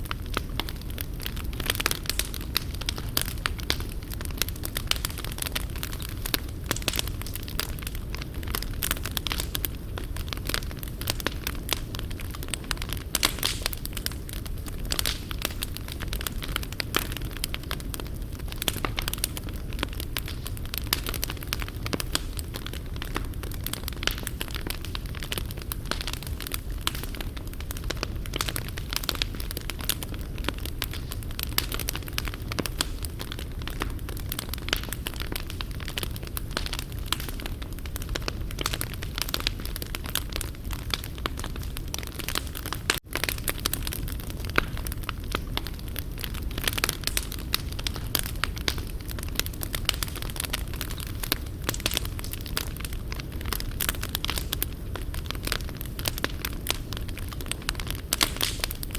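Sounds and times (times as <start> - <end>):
low rumble of flame: 0.0 - 58.9
wood fire crackling and popping: 0.0 - 58.9.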